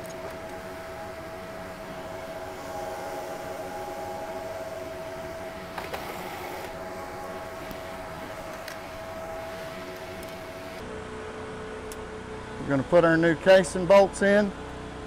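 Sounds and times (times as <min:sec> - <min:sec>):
machinery hum with steady tone: 0:00.0 - 0:15.0.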